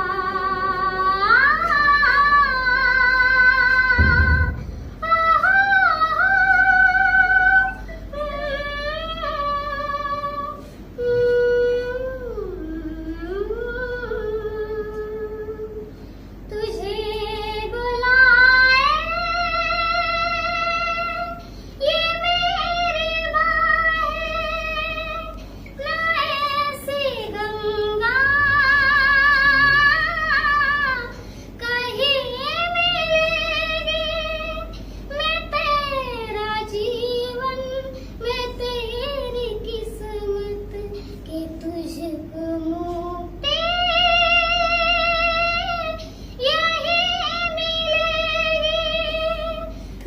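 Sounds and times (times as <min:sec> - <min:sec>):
girl singing unaccompanied: 0:00.0 - 0:49.8.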